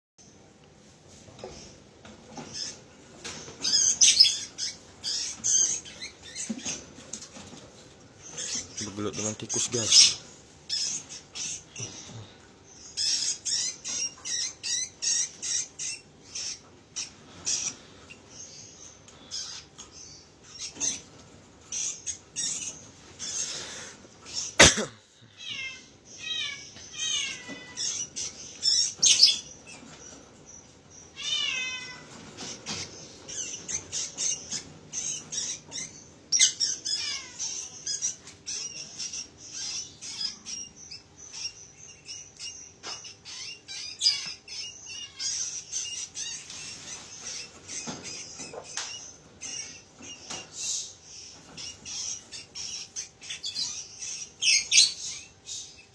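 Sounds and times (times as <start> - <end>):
parakeet and mouse squeaking: 1.3 - 24.6, 25.4 - 55.9.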